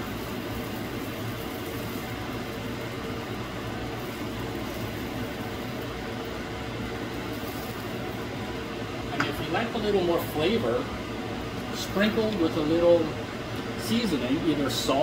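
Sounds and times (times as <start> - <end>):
fan humming and hissing: 0.0 - 15.0.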